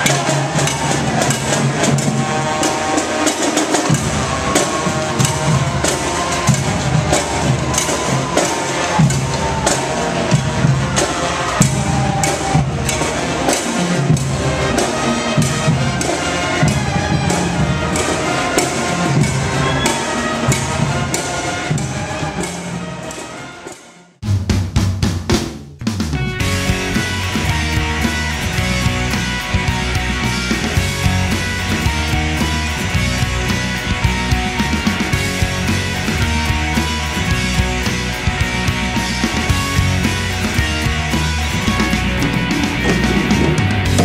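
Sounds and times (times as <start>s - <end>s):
bass line: 0.0s - 19.8s, 24.2s - 44.0s
drum kit beat: 0.0s - 22.1s, 24.2s - 44.0s.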